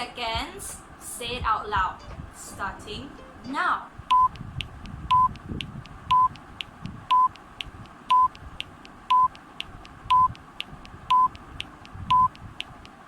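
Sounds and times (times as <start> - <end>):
timer ticking: 1.4 - 13.0
countdown timer beeping: 1.8 - 12.5.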